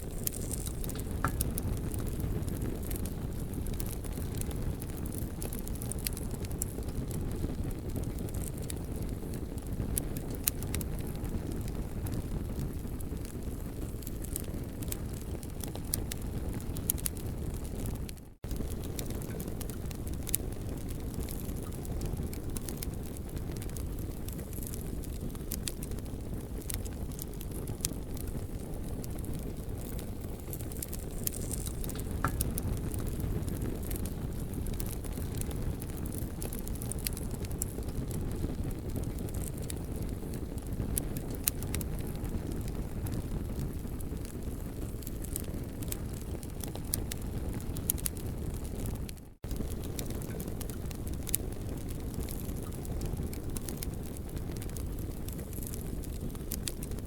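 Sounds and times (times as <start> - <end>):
campfire crackling and popping: 0.0 - 57.0
low fire rumble: 0.0 - 57.0.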